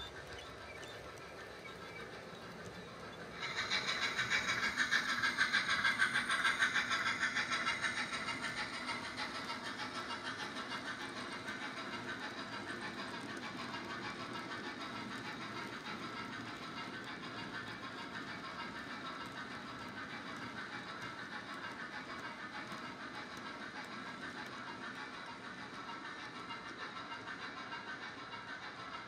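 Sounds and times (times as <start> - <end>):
model steam locomotive chuffing: 0.0 - 29.0
wagons rolling along track: 0.0 - 29.0.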